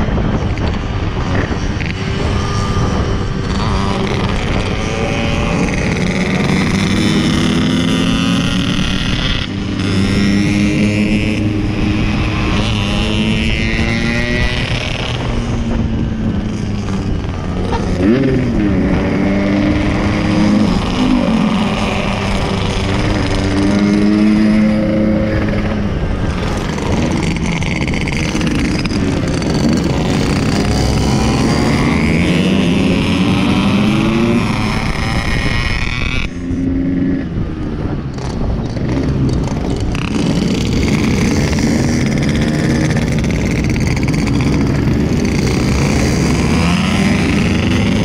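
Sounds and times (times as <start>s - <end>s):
motorcycle engine revving: 0.0s - 48.0s
other motorcycles riding: 0.0s - 48.0s.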